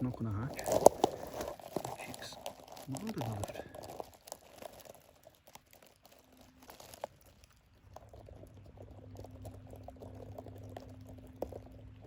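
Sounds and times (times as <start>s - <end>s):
low steady hum: 0.0s - 12.0s
rustling and crackling brambles: 0.0s - 12.0s.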